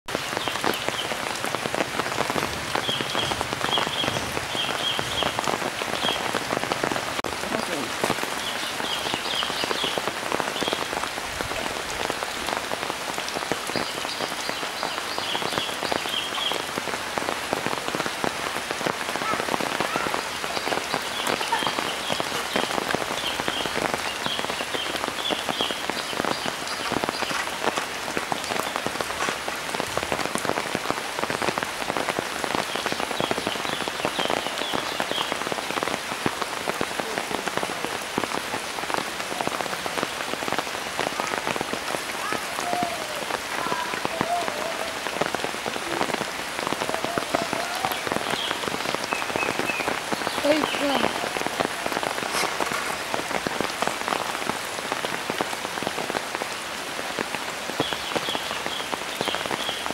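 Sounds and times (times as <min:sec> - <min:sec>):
heavy rain on water and leaves: 0:00.0 - 0:59.9.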